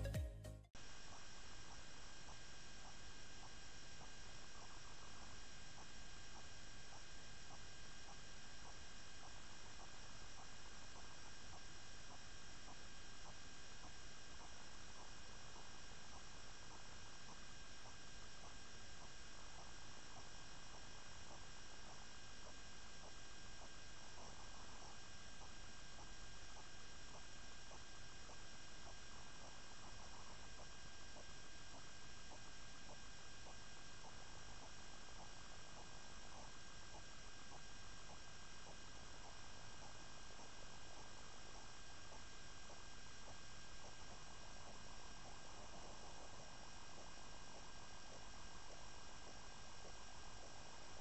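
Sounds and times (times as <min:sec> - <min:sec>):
electronic hum and hiss: 0:00.0 - 0:51.0
faint irregular ticks: 0:00.8 - 0:51.0.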